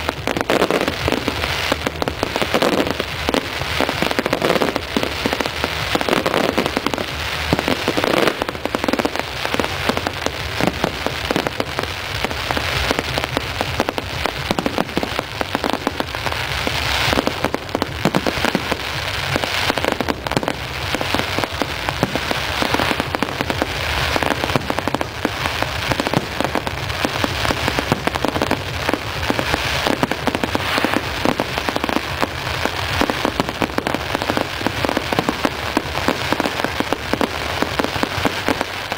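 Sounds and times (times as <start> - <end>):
fireworks crackling and popping: 0.0 - 38.9.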